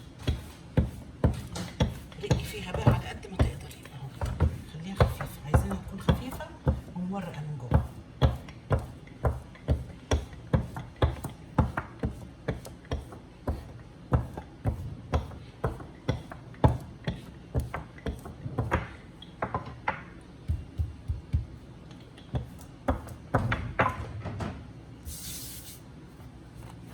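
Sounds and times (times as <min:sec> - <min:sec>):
rolling pin knocking on board: 0:00.2 - 0:07.0, 0:07.7 - 0:21.6, 0:22.3 - 0:24.5.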